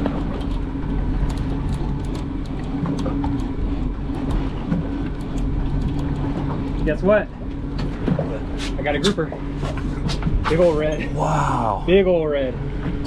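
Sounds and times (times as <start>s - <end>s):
outboard engines humming: 0.0s - 13.0s.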